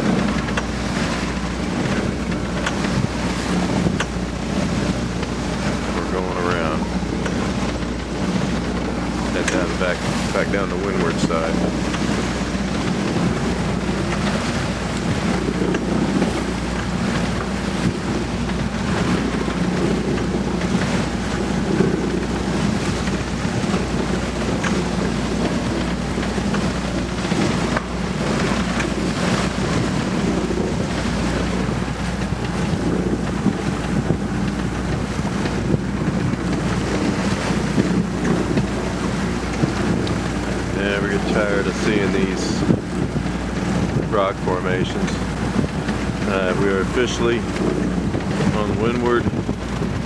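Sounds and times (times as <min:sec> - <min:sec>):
water rushing past hull: 0:00.0 - 0:50.0
wind buffeting microphone: 0:00.0 - 0:50.0.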